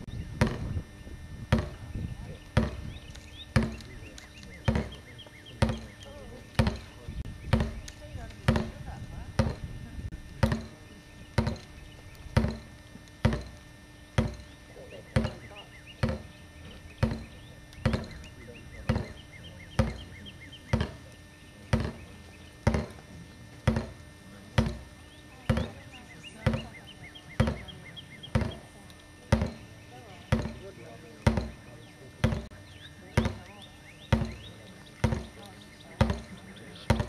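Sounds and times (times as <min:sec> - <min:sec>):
sharp ringing knocks: 0:00.0 - 0:09.8, 0:10.4 - 0:37.0.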